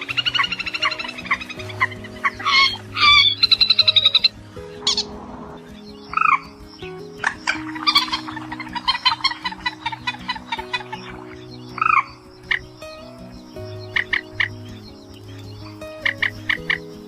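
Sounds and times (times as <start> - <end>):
rail bird calls: 0.0 - 17.0.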